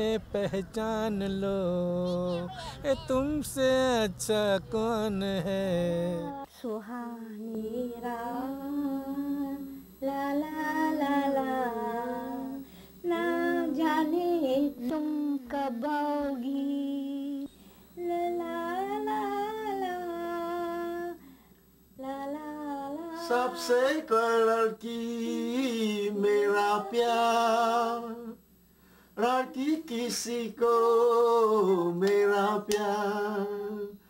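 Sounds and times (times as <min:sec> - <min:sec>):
woman singing unaccompanied: 0:00.0 - 0:21.2, 0:22.0 - 0:28.4.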